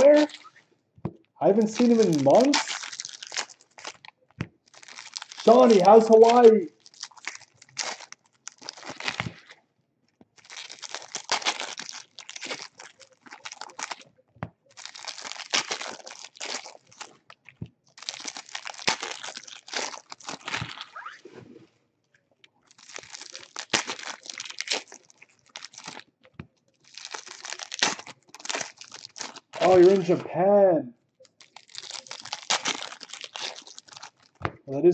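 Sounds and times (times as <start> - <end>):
wrappers crinkling and tearing: 0.0 - 0.6, 1.4 - 9.6, 10.3 - 21.3, 22.5 - 30.2, 31.2 - 34.9.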